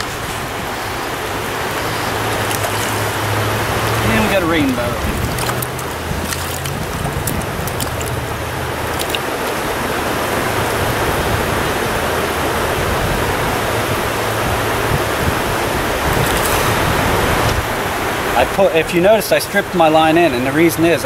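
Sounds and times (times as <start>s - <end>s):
stream water running over rocks: 0.0s - 21.0s
water splashes: 0.0s - 21.0s.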